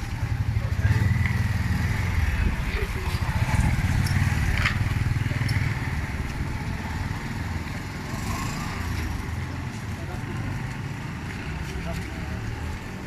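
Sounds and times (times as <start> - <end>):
motor vehicle engine rumbling: 0.0 - 13.0.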